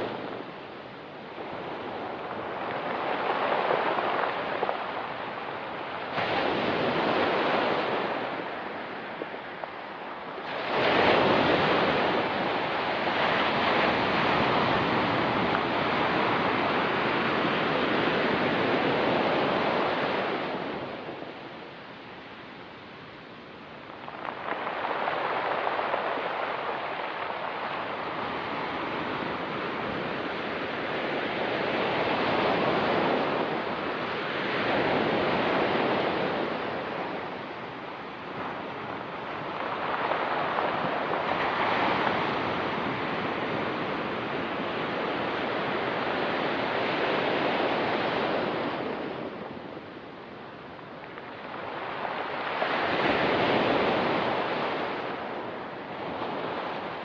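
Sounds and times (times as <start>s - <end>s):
surf washing onto pebble beach: 0.0s - 21.8s, 23.5s - 57.0s.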